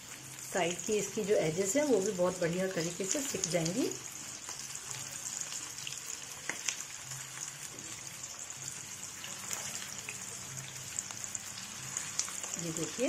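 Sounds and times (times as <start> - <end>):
food sizzling in hot oil: 0.0 - 13.0
oil crackling and popping: 0.0 - 13.0.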